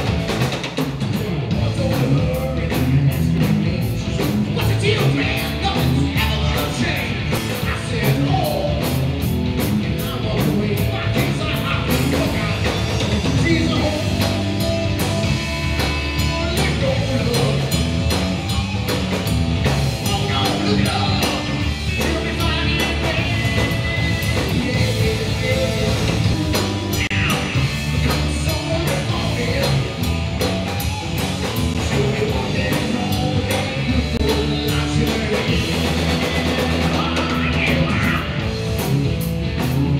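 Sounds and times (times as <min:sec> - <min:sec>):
drum kit: 0:00.0 - 0:39.9
electric guitar: 0:00.0 - 0:39.9
man singing: 0:01.1 - 0:14.6, 0:15.8 - 0:18.2, 0:19.9 - 0:30.2, 0:31.5 - 0:38.6.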